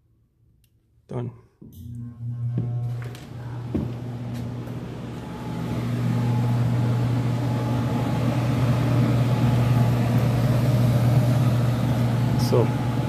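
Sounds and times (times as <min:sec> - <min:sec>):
blower fan humming: 0:01.6 - 0:13.0.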